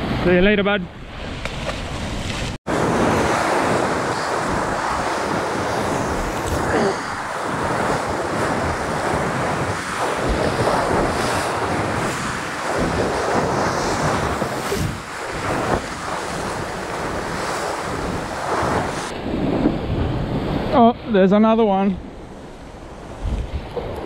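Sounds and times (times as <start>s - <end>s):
wind buffeting microphone: 0.0s - 24.0s
ocean waves washing over rock: 1.0s - 21.3s.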